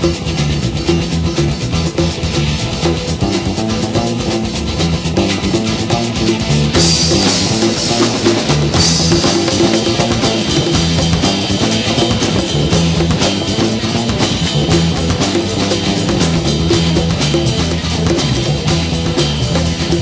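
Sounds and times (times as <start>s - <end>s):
music with drums and guitar: 0.0s - 20.0s.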